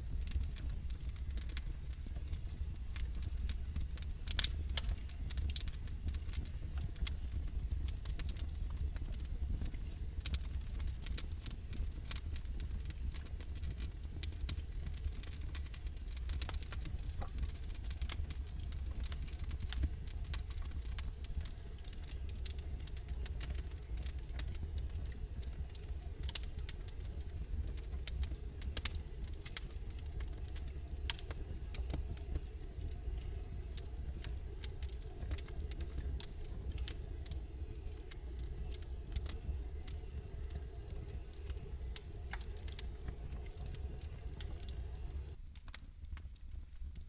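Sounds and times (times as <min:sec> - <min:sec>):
fire low rumble: 0:00.0 - 0:47.0
fire pops and snaps: 0:00.0 - 0:47.0
logs crackling in fireplace: 0:00.0 - 0:47.0.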